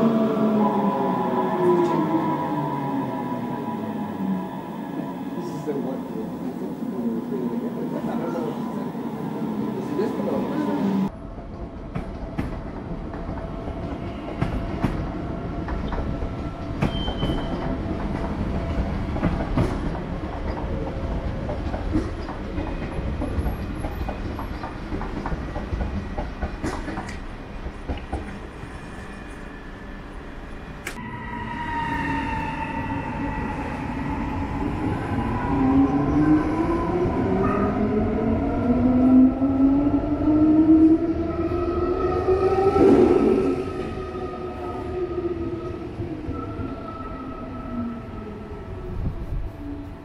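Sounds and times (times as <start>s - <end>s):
train rumbling on rails: 0.0s - 50.0s.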